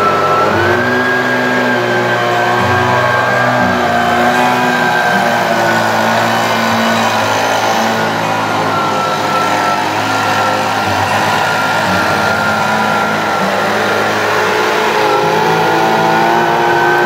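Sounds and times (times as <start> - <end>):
leaf blower running: 0.0 - 17.0.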